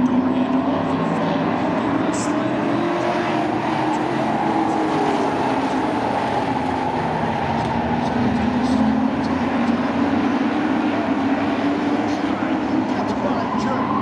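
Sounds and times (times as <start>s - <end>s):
racing truck engines: 0.0s - 14.0s.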